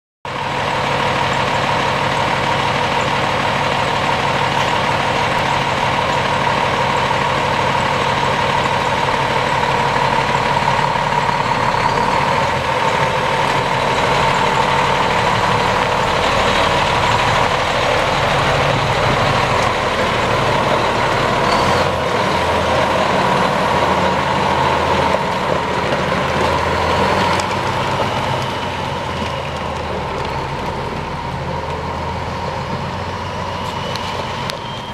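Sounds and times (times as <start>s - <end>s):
truck diesel engine running: 0.3s - 34.9s
tyres on gravel: 0.4s - 34.9s.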